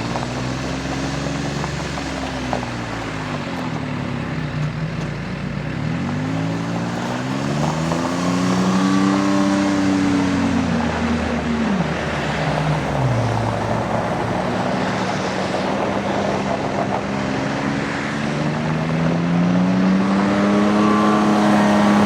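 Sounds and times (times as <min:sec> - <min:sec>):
utility vehicle engine running: 0:00.0 - 0:22.0.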